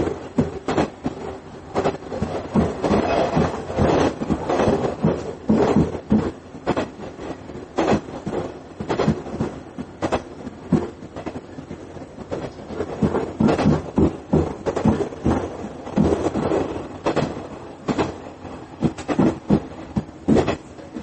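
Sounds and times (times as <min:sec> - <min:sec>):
steady train running noise: 0:00.0 - 0:21.0
train wheels clattering over rail joints: 0:00.0 - 0:21.0.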